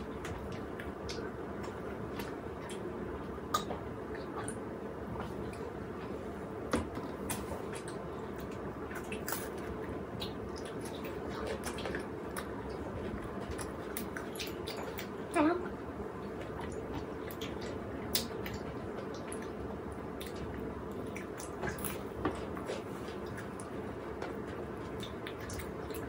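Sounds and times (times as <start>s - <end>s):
wet chewing sounds: 0.0s - 6.2s, 6.8s - 15.4s, 16.0s - 26.0s
low background hum: 0.0s - 26.0s.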